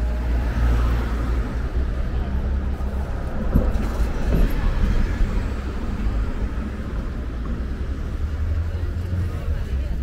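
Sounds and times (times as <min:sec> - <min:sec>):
bus driving past: 0:00.0 - 0:10.0.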